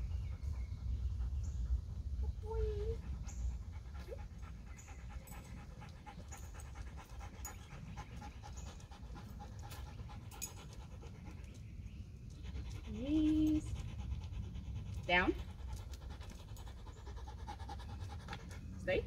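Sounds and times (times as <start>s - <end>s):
dog panting: 0.1s - 19.0s.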